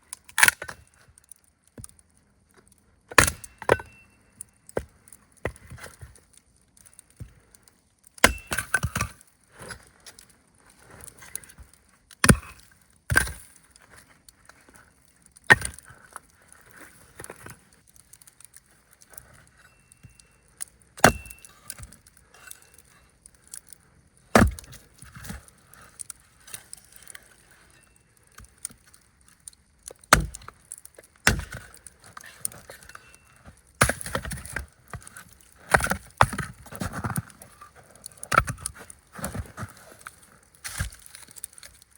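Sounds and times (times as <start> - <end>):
dry wood cracking: 0.0 - 41.9.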